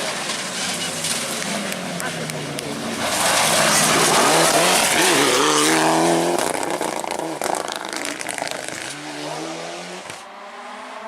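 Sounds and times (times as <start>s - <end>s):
rally car passing at full throttle: 0.0s - 11.0s.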